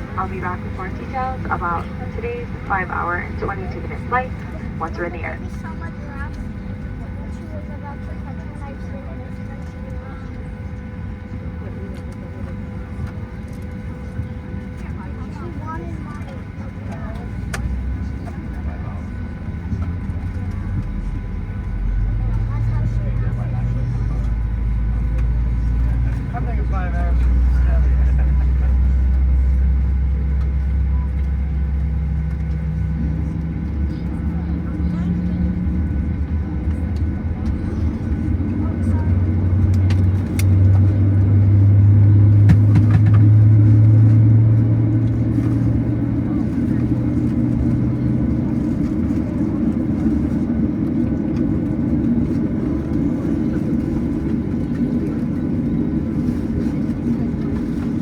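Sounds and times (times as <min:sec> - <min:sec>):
airplane cabin rumble and hum: 0:00.0 - 0:58.0.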